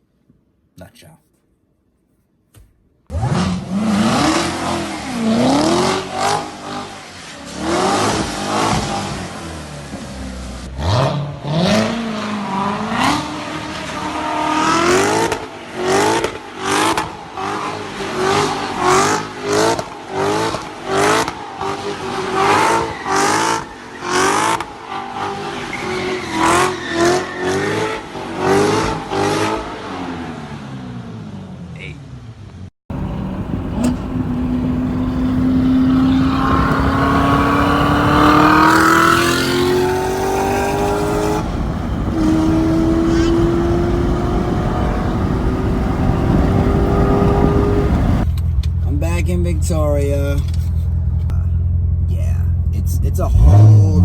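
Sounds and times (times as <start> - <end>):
car engines revving hard: 3.1 - 31.6, 32.9 - 48.4, 53.1 - 54.0.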